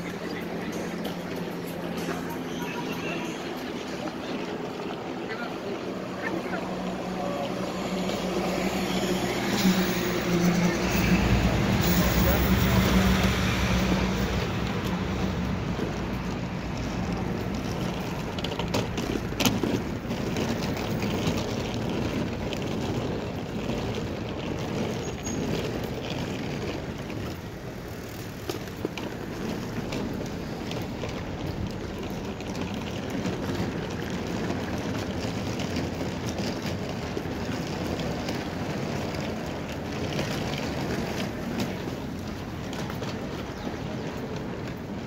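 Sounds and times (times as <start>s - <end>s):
traffic hum: 0.0s - 45.0s.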